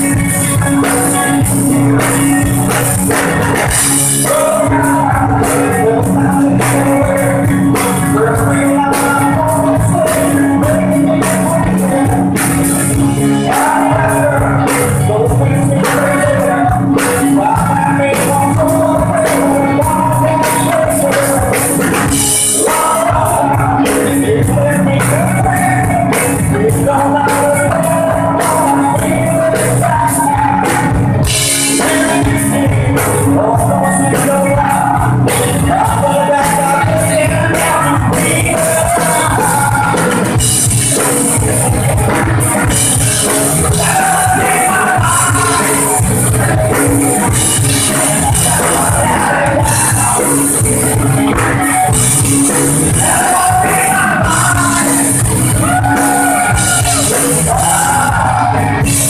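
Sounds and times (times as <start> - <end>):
live rock band playing: 0.0 - 59.0
man singing into microphone: 0.0 - 59.0.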